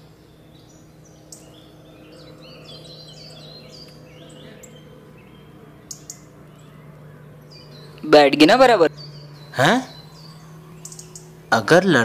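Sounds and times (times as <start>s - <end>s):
faint low hum: 0.0s - 12.0s
small birds chirping: 0.0s - 12.0s.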